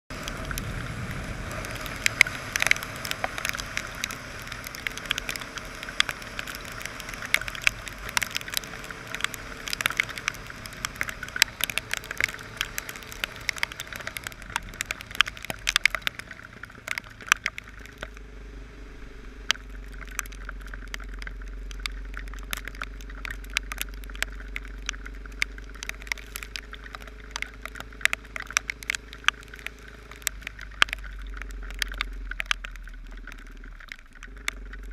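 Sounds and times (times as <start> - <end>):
low hum: 0.1 - 34.9
motorcycle engine running: 0.1 - 34.9
raindrops striking camera: 0.1 - 34.9.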